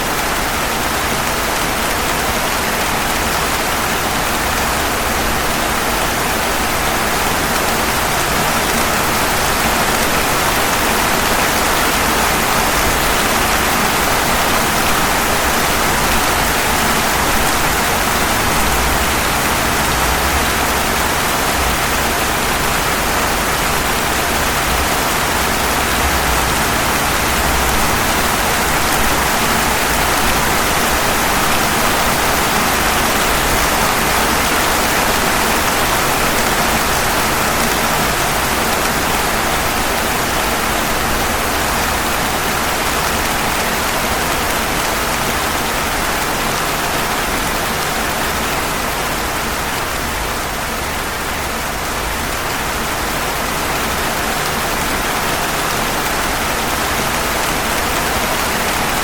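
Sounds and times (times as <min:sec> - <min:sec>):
rain falling on pavement: 0:00.0 - 0:59.0.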